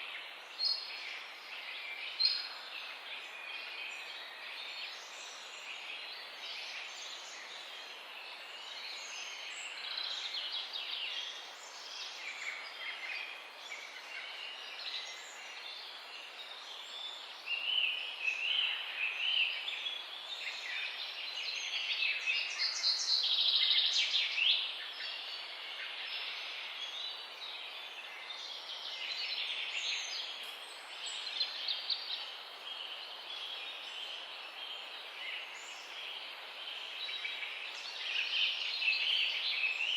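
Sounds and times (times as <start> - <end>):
background hiss: 0.0 - 39.9
songbirds singing and chirping: 0.0 - 39.9.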